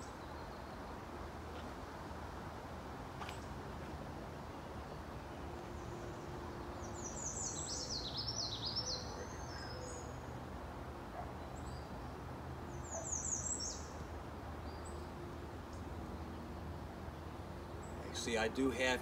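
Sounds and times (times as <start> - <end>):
songbird singing: 0.0 - 1.8, 3.2 - 19.0.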